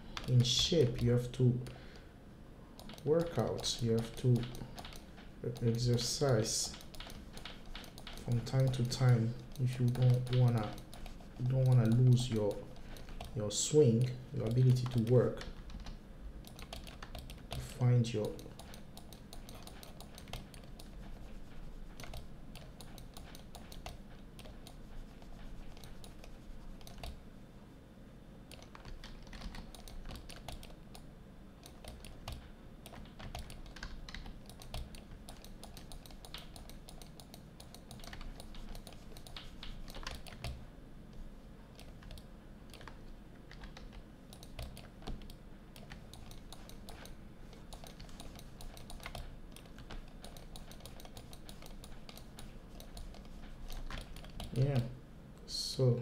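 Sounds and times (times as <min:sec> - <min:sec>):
computer keyboard typing: 0:00.0 - 0:01.8, 0:02.8 - 0:27.2, 0:28.5 - 0:40.6, 0:41.7 - 0:54.9.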